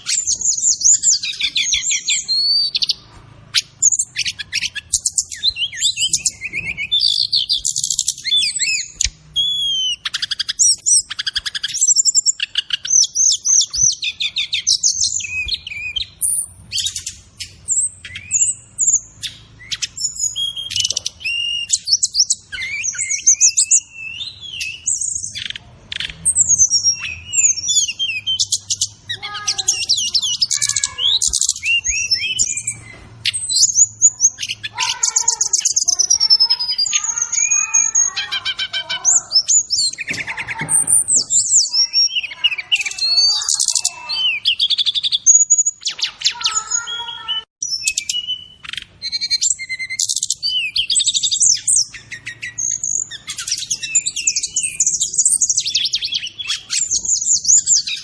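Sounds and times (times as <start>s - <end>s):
birdsong chirps and trills: 0.0s - 58.0s
lower warbled bird phrases: 0.0s - 58.0s.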